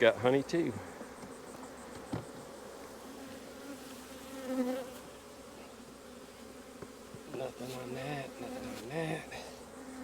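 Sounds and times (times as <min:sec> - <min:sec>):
honeybees buzzing: 0:00.0 - 0:10.0.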